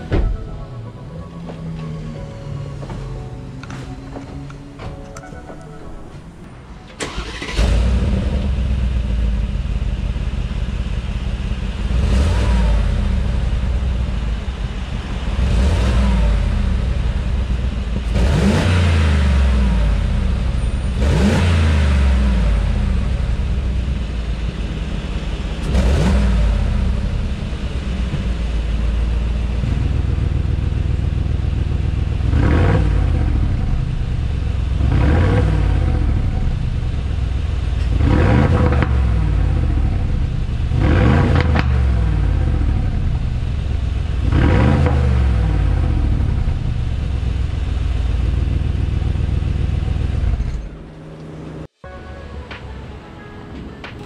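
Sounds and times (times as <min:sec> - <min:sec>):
car engine idling and revving: 0:00.0 - 0:05.7, 0:06.4 - 0:51.8.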